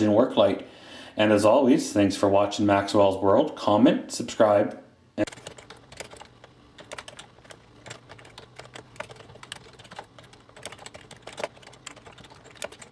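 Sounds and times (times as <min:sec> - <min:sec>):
faint low hum: 0:00.0 - 0:12.9.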